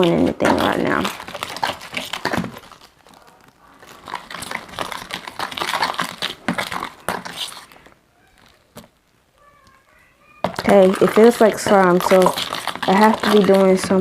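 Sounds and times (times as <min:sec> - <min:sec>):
spoon stirring slime in bowl: 0:00.0 - 0:14.0.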